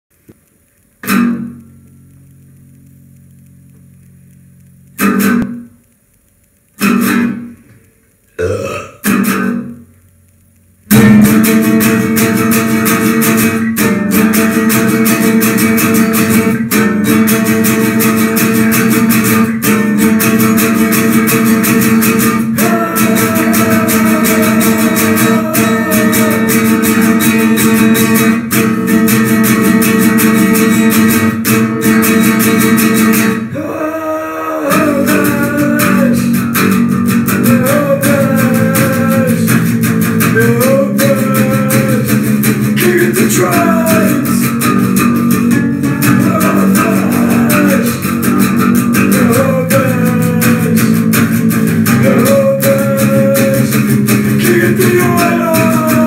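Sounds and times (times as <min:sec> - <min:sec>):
guitar chords strummed: 0:00.3 - 0:06.0, 0:06.6 - 0:56.0
loud full guitar strumming music: 0:00.4 - 0:05.9, 0:06.7 - 0:56.0.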